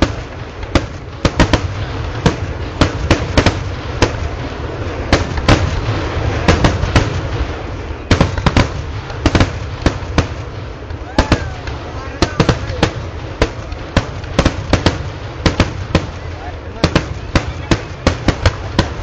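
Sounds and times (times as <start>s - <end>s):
continuous low rumble: 0.0s - 19.0s
firecracker bangs: 0.0s - 19.0s.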